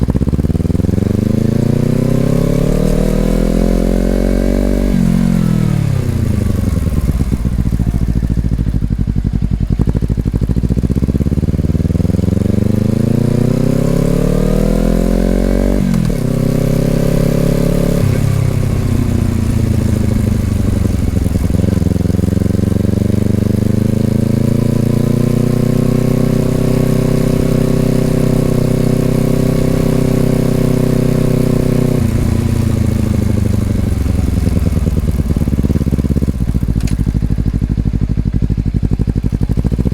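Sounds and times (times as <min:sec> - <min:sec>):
motorcycle engine on the move: 0:00.0 - 0:39.9.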